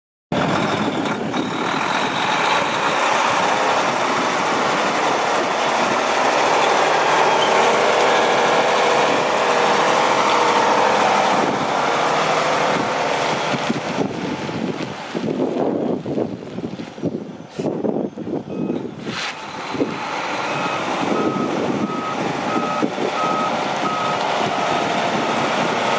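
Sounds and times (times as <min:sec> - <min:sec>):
diesel engine running: 0:00.3 - 0:25.9.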